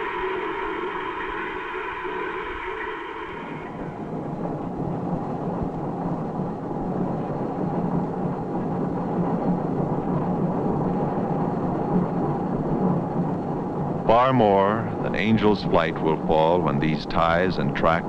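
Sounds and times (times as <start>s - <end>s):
funicular car rumbling on tracks: 0.0s - 18.0s.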